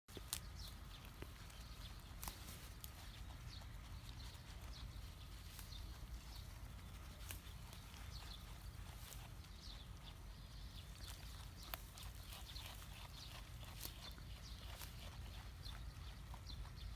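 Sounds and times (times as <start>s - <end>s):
low steady rumble: 0.1s - 16.9s.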